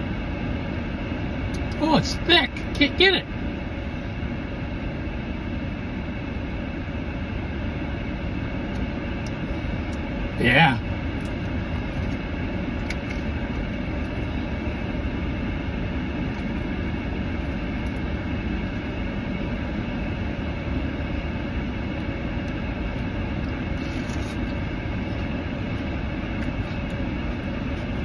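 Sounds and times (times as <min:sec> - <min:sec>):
climate fan blowing: 0:00.0 - 0:28.0.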